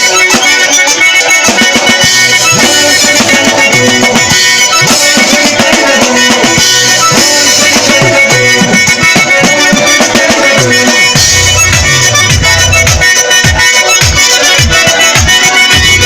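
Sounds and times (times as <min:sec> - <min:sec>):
drum kit playing: 0:00.0 - 0:16.0
folk music: 0:00.0 - 0:16.0.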